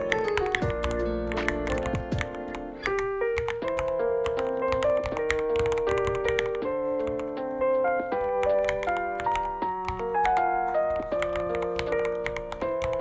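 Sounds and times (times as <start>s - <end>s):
background music: 0.0s - 13.0s
mechanical keyboard typing: 0.0s - 13.0s.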